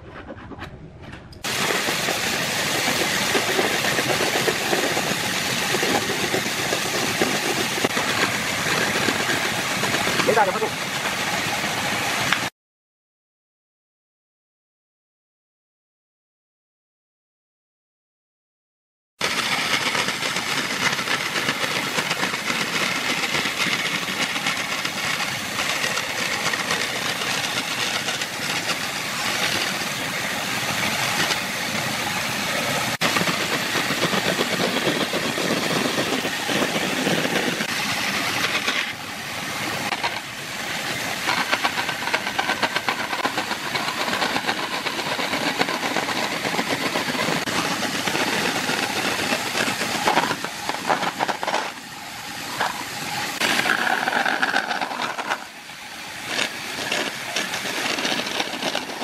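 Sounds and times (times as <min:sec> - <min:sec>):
band saw cutting wood: 0:01.4 - 0:11.6, 0:19.2 - 0:51.8, 0:52.4 - 0:59.0.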